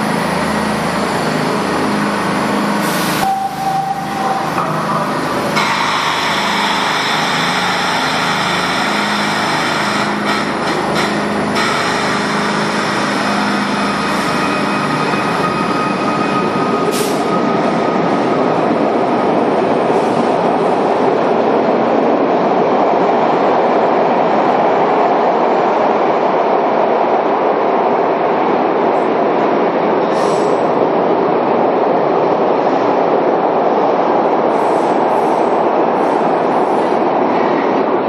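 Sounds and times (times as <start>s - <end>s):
subway wheels rumbling on rails: 0.0s - 38.0s.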